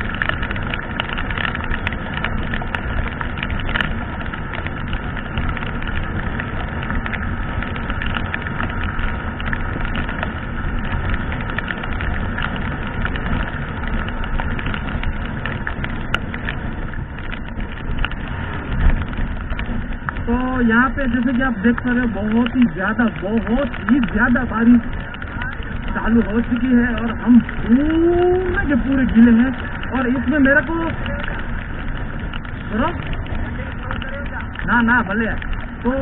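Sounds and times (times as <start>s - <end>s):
heavy rain: 0.0s - 36.0s
motorcycle engine running: 0.0s - 36.0s
wind rushing over helmet camera: 0.0s - 36.0s.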